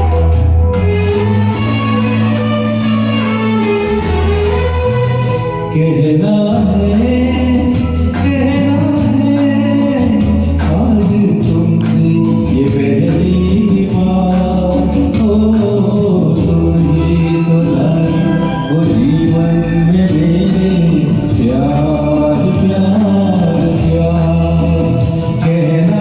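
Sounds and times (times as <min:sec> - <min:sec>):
instrumental backing track: 0:00.0 - 0:26.0.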